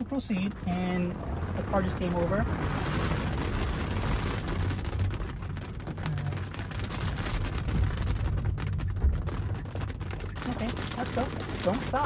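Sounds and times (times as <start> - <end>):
low car and traffic rumble: 0.0 - 12.0
rain on car roof: 0.0 - 12.0.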